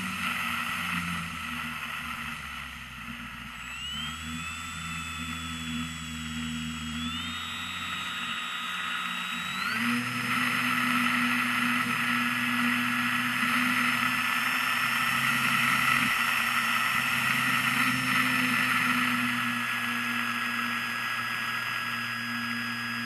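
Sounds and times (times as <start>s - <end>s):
model airplane motor whine: 0.0s - 23.0s.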